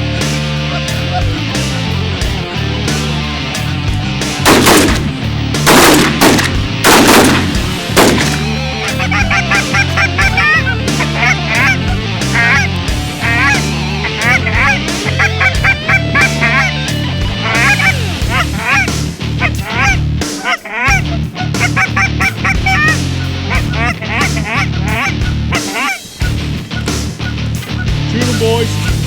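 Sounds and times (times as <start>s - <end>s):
geese honking: 0.0s - 5.5s, 6.1s - 29.0s.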